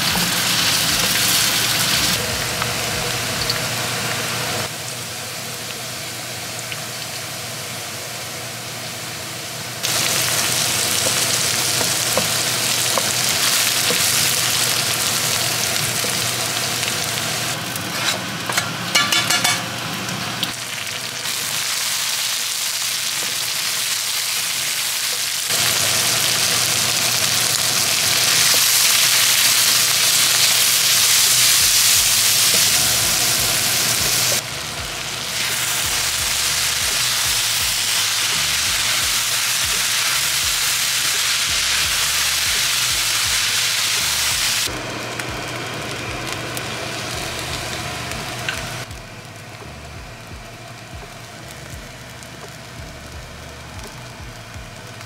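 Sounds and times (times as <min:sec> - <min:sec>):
frying hiss in a wok: 0:00.0 - 0:55.0.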